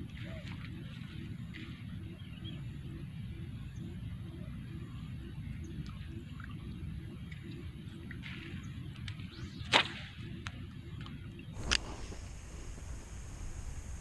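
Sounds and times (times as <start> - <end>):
faint regular pulse: 0.0 - 14.0
wind buffeting microphone: 0.0 - 14.0
bird chirps: 0.1 - 12.1.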